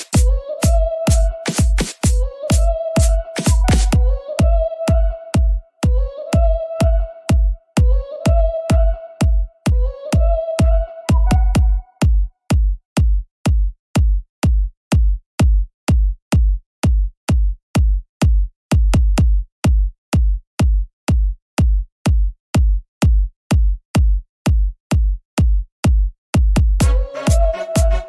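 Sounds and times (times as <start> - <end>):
drum machine kick drum beat: 0.0 - 28.0.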